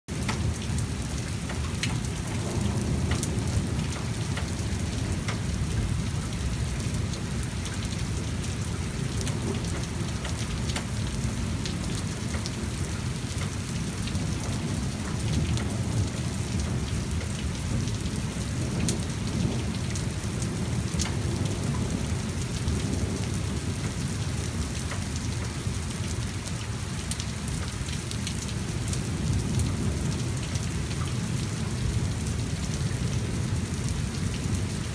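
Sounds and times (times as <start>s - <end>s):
heavy rain on pavement: 0.1s - 34.9s.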